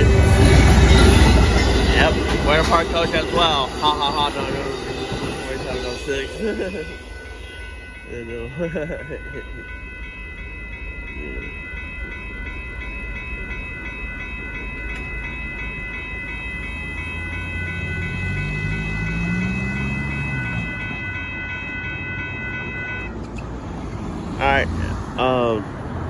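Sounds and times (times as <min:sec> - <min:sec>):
crossing warning bells ringing: 0:00.0 - 0:26.0
passing train rumble: 0:00.0 - 0:26.0.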